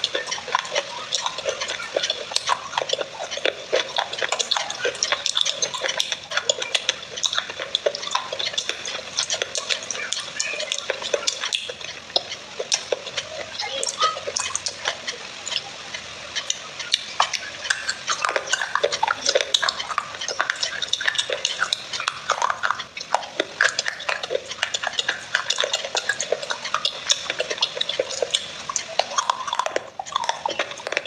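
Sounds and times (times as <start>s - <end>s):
fingers squelching wet clay: 0.0s - 31.0s.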